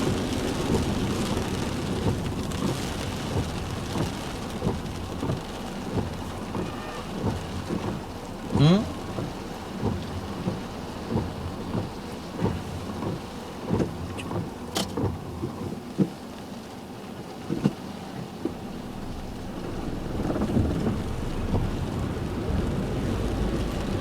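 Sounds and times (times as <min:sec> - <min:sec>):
heavy rain on a car: 0:00.0 - 0:24.0.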